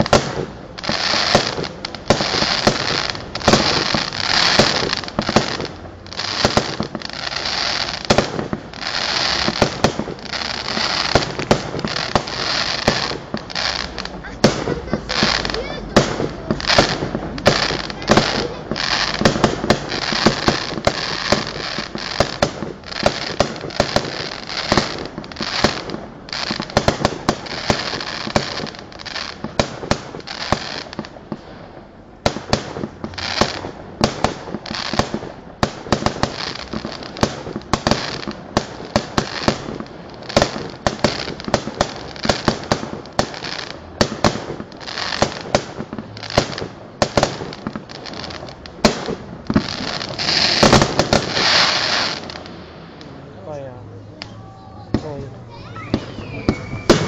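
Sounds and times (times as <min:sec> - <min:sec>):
firework crackling fizz: 0:00.0 - 0:53.2, 0:54.3 - 0:57.0
firework bangs: 0:00.0 - 0:53.6, 0:54.2 - 0:57.0.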